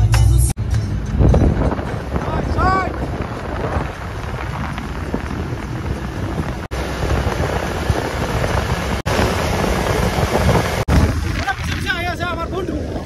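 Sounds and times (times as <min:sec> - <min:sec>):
road and engine rumble: 0:00.0 - 0:13.0
wind buffeting microphone: 0:00.6 - 0:13.0.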